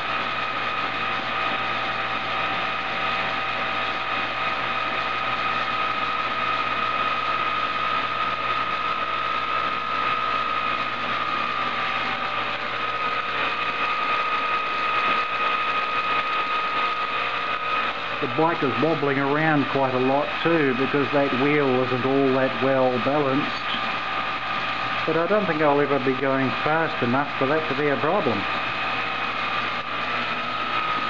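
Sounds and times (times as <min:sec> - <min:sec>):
electric motor whine: 0:00.0 - 0:31.0
mechanical running noise: 0:00.0 - 0:31.0.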